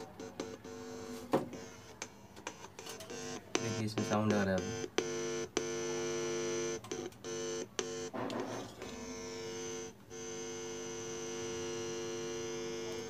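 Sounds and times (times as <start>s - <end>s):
speaker electrical hum: 0.0s - 13.0s.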